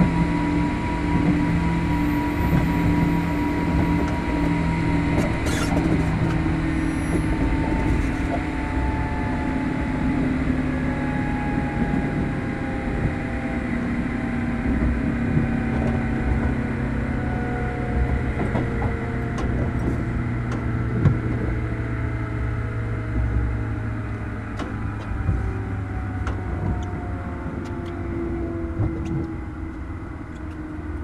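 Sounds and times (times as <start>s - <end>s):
track rumble: 0.0s - 31.0s
train motor whine: 0.0s - 31.0s.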